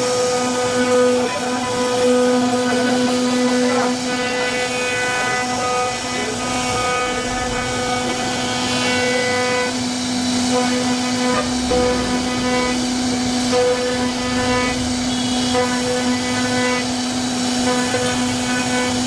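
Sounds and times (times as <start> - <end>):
router cutting wood: 0.0 - 19.0
router spindle whine: 0.0 - 19.0.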